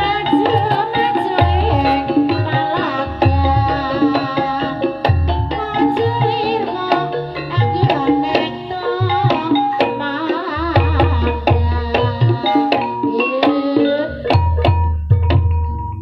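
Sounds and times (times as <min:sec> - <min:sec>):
person singing wavering melody: 0:00.0 - 0:16.0
ringing gamelan notes: 0:00.0 - 0:16.0.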